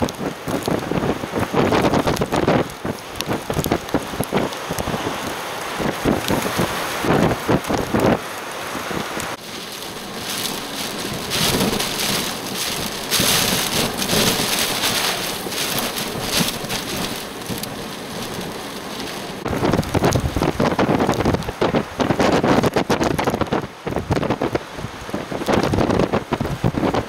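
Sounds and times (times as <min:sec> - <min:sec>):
heavy rain hiss: 0:00.0 - 0:27.0
wind buffeting microphone: 0:00.0 - 0:27.0.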